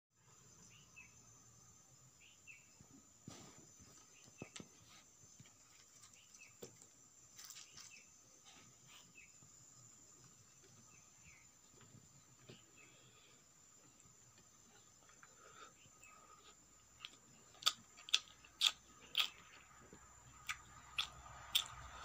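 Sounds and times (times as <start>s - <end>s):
faint high-pitched hum: 0.2s - 22.0s.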